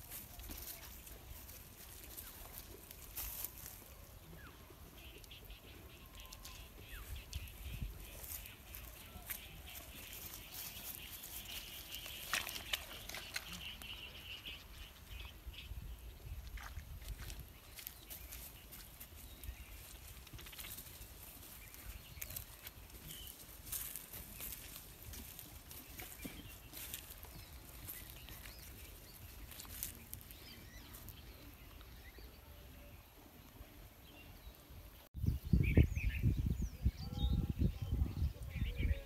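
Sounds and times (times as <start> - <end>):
birds chirping: 0.0 - 39.0
bird calls: 3.4 - 34.7.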